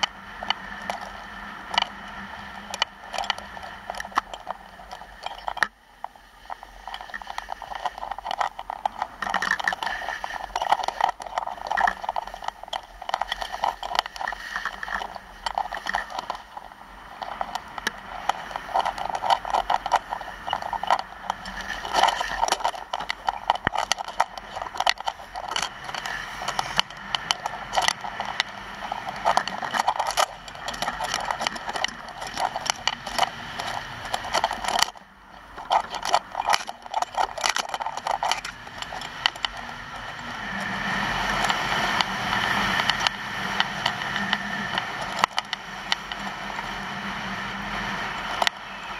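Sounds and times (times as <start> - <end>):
skis scraping over hard snow: 0.0 - 48.9.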